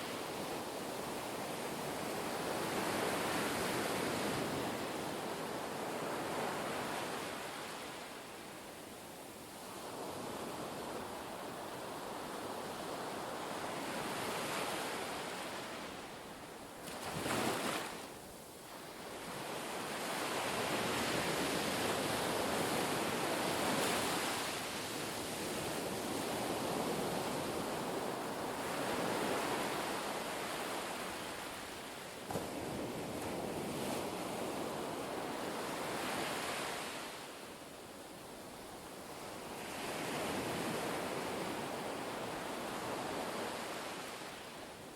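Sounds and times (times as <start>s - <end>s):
wind: 0.0s - 44.9s.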